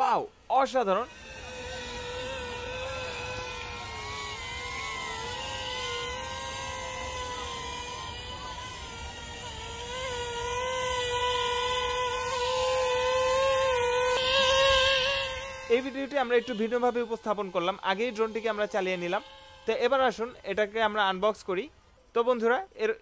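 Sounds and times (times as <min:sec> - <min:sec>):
quadcopter propellers whining: 0:00.0 - 0:21.9.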